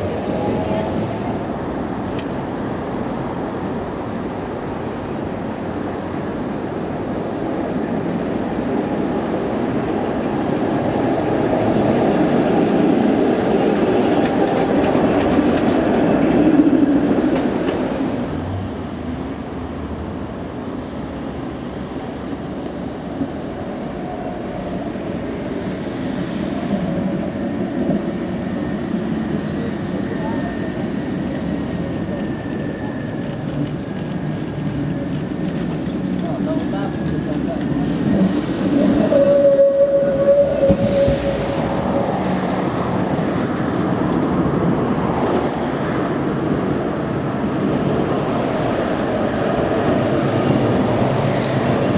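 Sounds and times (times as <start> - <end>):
tram running on street track: 0.0 - 51.9.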